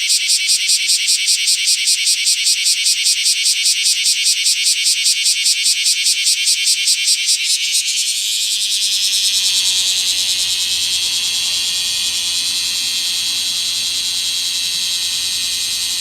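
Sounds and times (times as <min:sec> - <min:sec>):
cicadas chorusing: 0:00.0 - 0:16.0.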